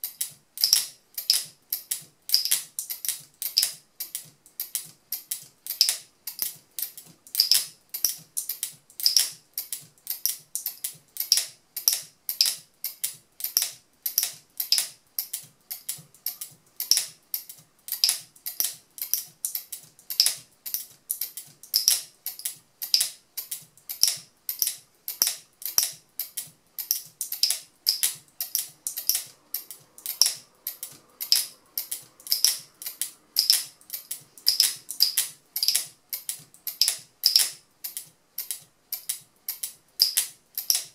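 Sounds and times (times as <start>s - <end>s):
locking mechanism clicking: 0.0s - 40.9s.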